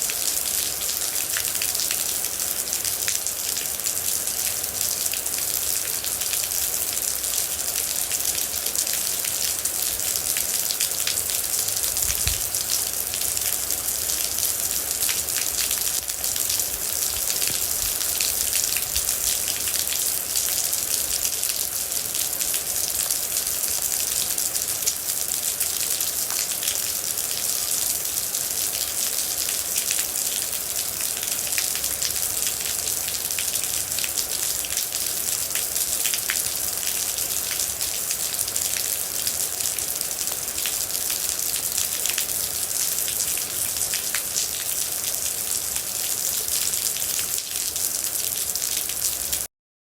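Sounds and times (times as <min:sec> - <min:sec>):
steady rain falling: 0:00.0 - 0:49.5.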